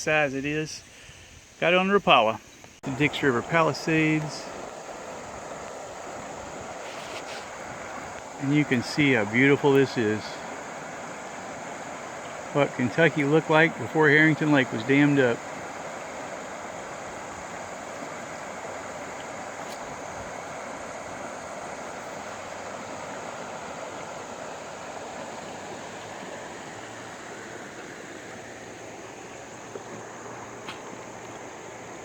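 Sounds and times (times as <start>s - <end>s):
wind: 0.0s - 32.0s
water rushing past boat: 2.8s - 32.0s.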